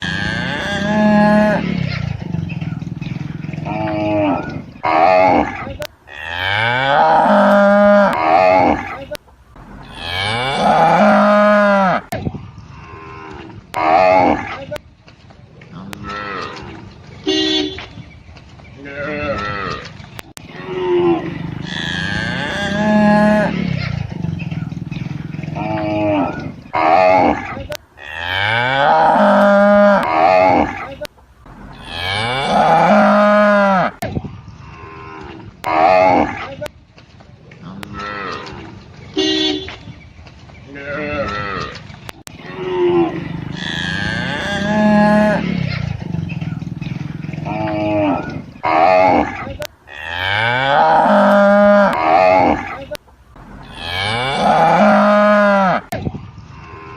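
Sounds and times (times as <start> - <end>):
cows mooing: 0.0 - 12.2, 12.8 - 14.6, 15.6 - 17.5, 18.8 - 34.0, 34.6 - 36.6, 37.6 - 39.5, 40.7 - 56.0.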